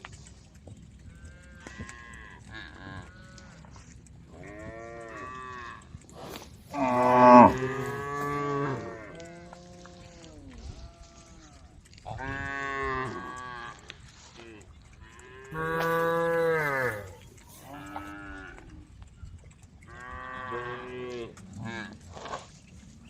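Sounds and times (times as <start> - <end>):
cows mooing: 1.0 - 14.0, 15.0 - 18.9, 19.9 - 22.0.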